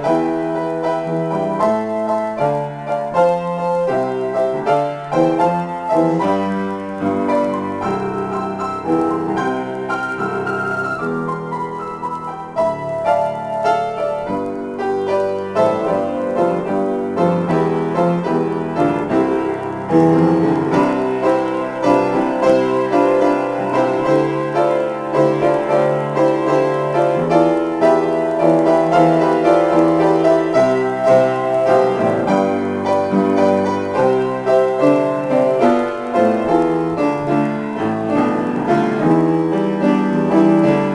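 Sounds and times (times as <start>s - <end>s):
solo grand piano: 0.0s - 40.9s.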